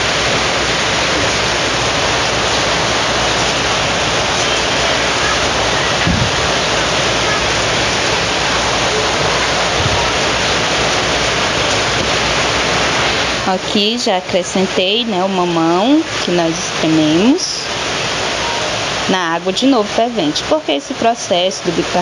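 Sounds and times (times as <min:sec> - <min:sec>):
water boiling in a pan: 0:00.0 - 0:22.0.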